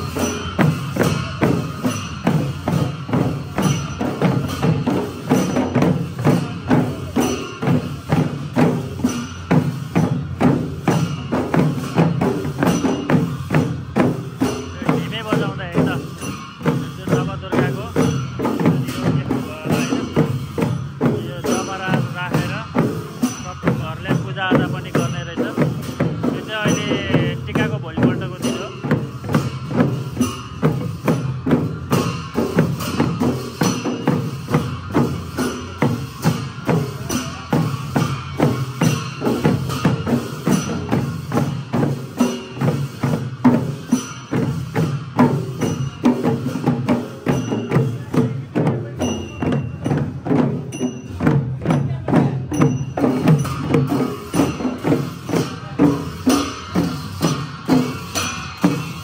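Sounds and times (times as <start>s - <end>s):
drums beating fast rhythm: 0.0s - 59.0s
small cymbals ringing: 0.0s - 59.0s.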